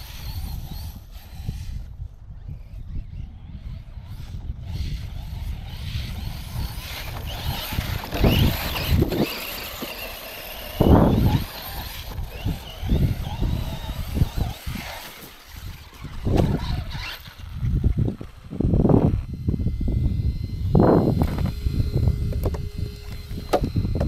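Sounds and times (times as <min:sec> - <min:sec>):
electric motor whining: 0:00.0 - 0:24.0
wind rumble on microphone: 0:00.0 - 0:24.0.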